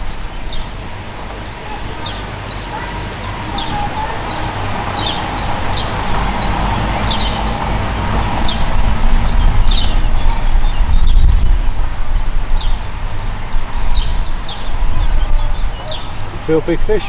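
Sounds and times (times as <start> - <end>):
low rumbling noise: 0.0 - 17.0
small bird chirping: 0.0 - 17.0.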